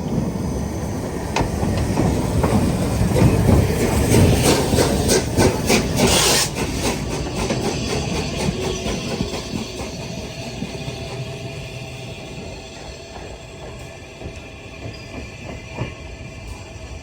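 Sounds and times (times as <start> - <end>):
steam hissing: 0.0 - 16.7
steam train rumbling: 0.0 - 17.0.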